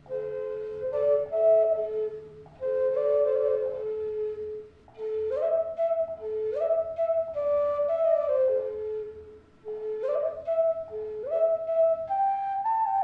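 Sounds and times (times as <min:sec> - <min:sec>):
wooden flute melody: 0:00.0 - 0:13.0.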